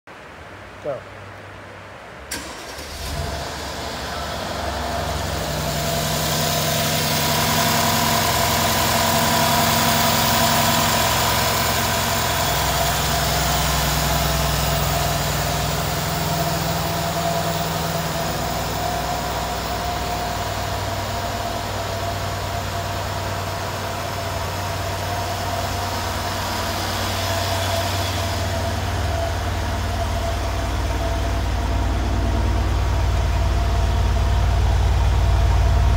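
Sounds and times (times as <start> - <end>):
car engine idling: 2.3 - 35.9
held whine: 3.3 - 35.9.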